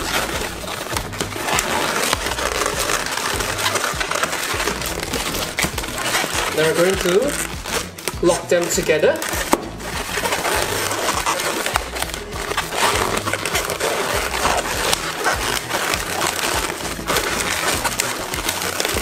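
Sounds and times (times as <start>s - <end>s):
background music: 0.0s - 19.0s
balloons squeaking and rubbing: 0.0s - 19.0s.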